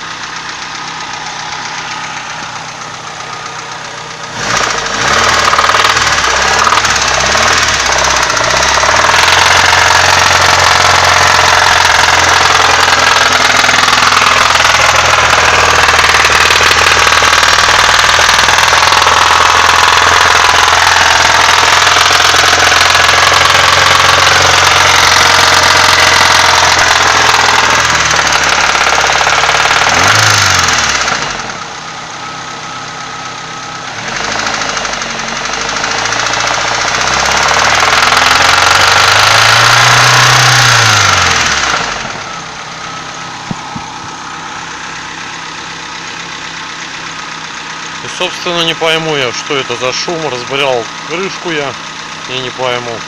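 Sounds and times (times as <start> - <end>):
car engine running with knock: 0.0 - 53.0
engine revving: 0.0 - 53.0.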